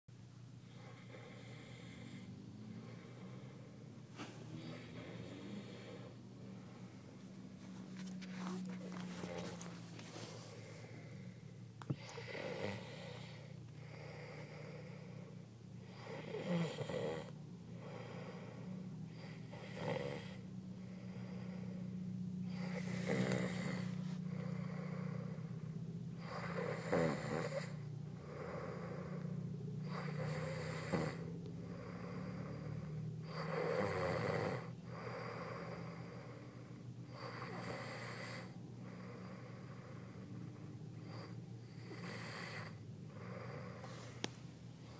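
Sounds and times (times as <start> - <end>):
steady low hum: 0.1 - 44.9
man snoring: 0.7 - 7.1, 10.5 - 44.0.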